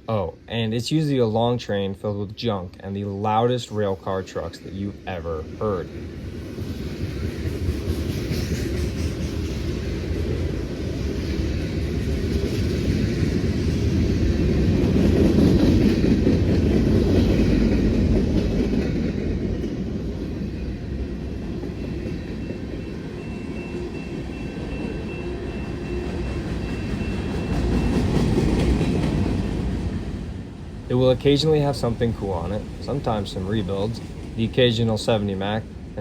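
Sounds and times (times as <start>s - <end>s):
freight train wheels rumbling: 2.1s - 36.0s.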